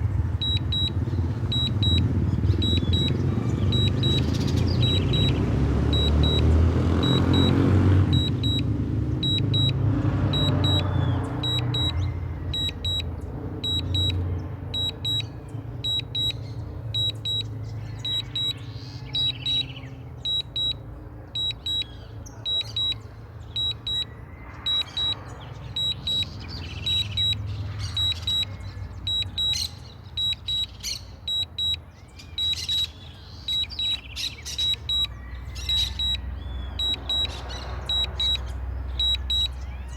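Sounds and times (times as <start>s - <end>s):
remote controller double beeps: 0.4s - 20.8s, 21.4s - 21.9s, 22.5s - 23.0s, 23.6s - 24.1s, 24.7s - 31.8s, 32.4s - 36.2s, 36.8s - 39.6s.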